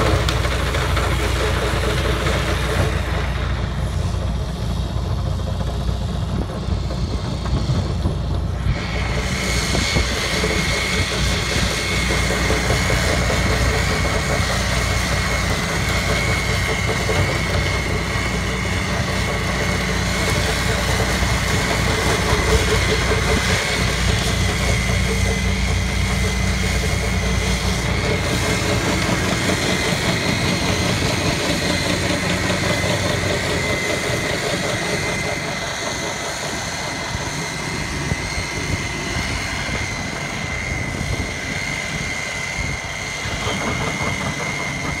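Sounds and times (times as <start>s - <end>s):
steady high whine: 0.0s - 45.0s
tractor diesel engines running: 0.0s - 45.0s.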